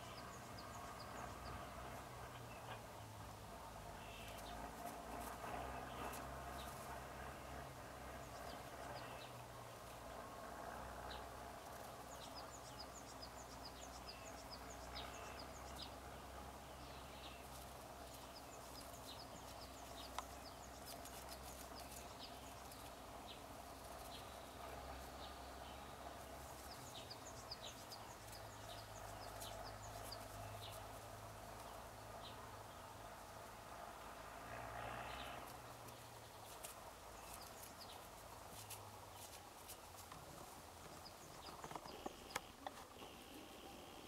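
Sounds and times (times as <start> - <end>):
low outdoor hum: 0.0 - 44.0.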